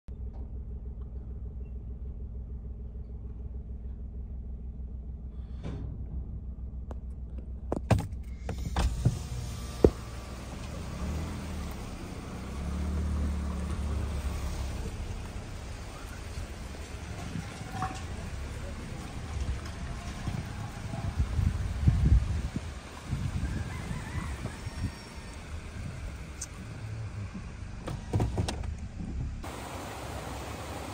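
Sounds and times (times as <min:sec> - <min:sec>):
car engine and road noise: 0:00.1 - 0:30.9.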